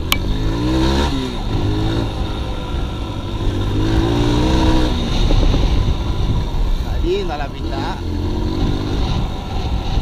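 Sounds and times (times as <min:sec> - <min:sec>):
dirt bike engine revving: 0:00.0 - 0:06.8, 0:07.4 - 0:10.0.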